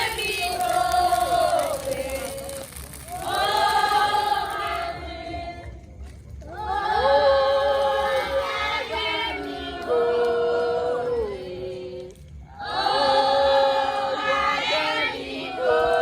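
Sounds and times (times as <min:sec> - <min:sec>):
group singing in unison: 0:00.0 - 0:05.8, 0:06.5 - 0:16.0.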